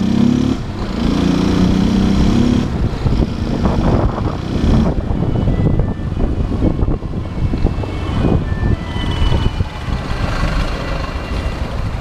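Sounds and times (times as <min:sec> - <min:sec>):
traffic vehicles: 0:00.0 - 0:12.0.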